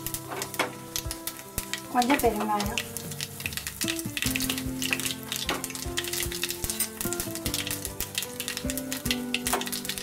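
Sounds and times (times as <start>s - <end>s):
background music with held notes: 0.0s - 10.0s
seeds crackling in hot oil: 0.0s - 10.0s.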